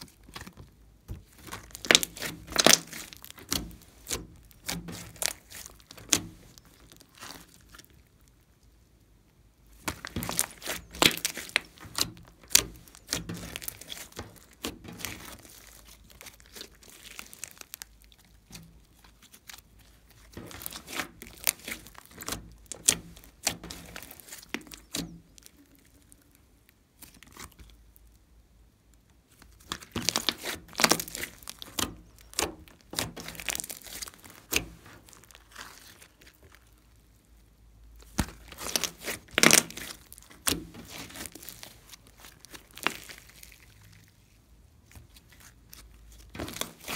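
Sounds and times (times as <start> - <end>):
slime crackling and popping: 0.0 - 28.3, 28.9 - 46.9.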